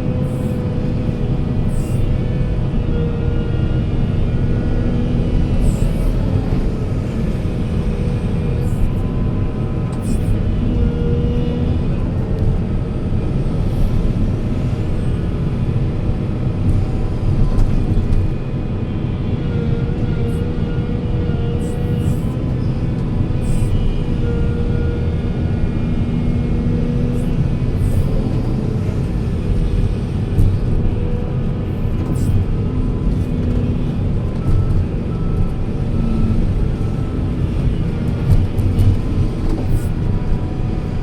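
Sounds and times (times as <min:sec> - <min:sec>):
diesel machinery engine running: 0:00.0 - 0:41.0.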